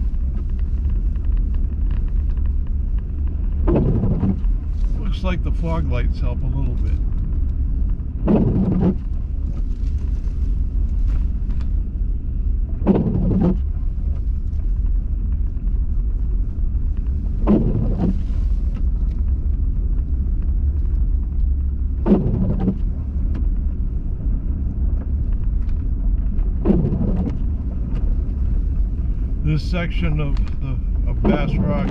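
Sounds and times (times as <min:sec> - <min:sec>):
car road and engine rumble: 0:00.0 - 0:31.9
windshield wipers sweeping: 0:00.0 - 0:31.9.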